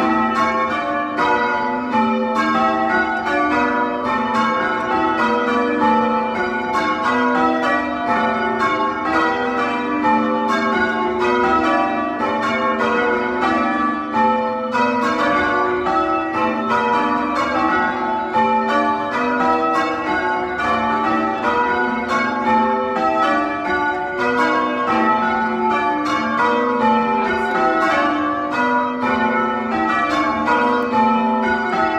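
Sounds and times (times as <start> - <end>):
church bells ringing changes: 0.0 - 31.9.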